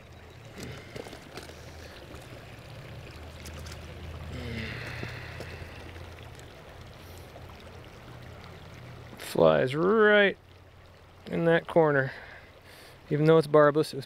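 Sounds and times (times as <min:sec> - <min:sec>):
light clicks and splashes: 0:00.0 - 0:14.0
stream water running: 0:00.0 - 0:14.0.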